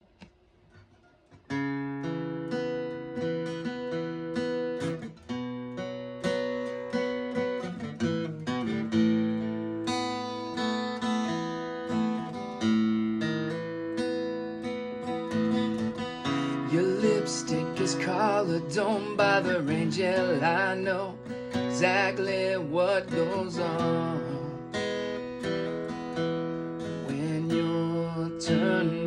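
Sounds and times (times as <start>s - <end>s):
acoustic guitar strumming chords: 0.8s - 29.0s.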